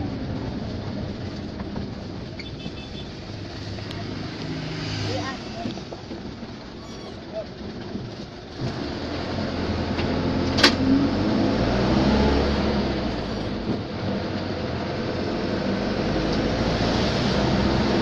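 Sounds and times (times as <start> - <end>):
vehicle engine and road hum: 0.0 - 18.0.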